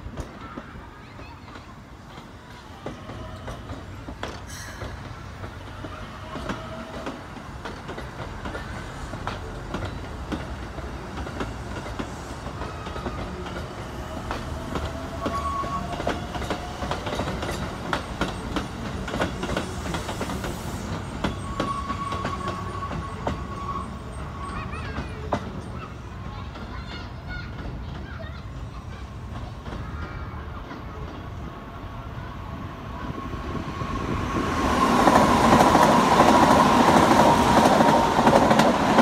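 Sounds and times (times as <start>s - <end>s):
train wheels clicking over rail joints: 0.0s - 31.4s
train rumble: 0.0s - 39.0s.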